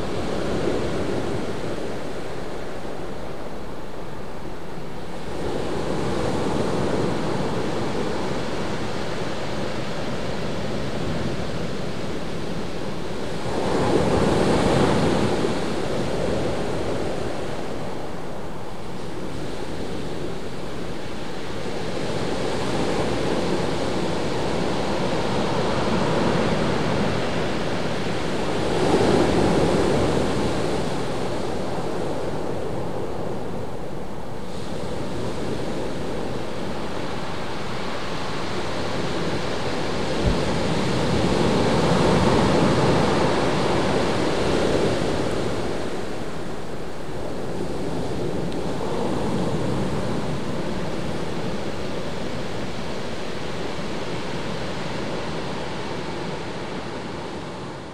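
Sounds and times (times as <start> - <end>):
ocean surf washing on beach: 0.0 - 57.9.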